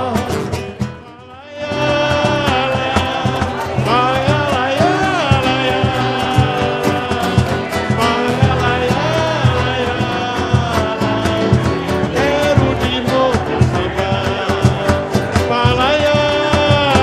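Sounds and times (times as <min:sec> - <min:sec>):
upbeat music with drum beat: 0:01.7 - 0:17.0.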